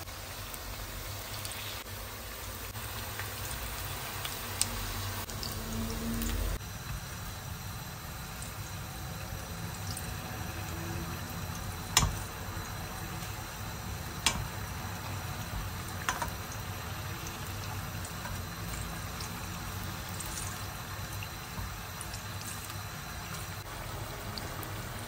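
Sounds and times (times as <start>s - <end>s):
pastry sizzling in frying oil: 0.0s - 25.0s.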